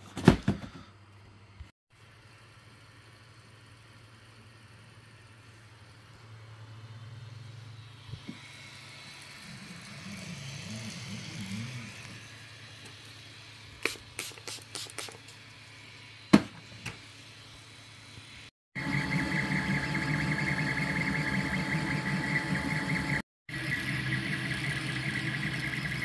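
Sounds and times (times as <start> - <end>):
stepper motors whirring: 3.4 - 26.0.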